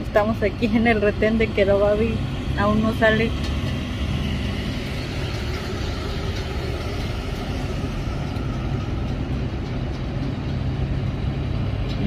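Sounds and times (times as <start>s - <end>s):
diesel truck engines idling: 0.0s - 12.0s.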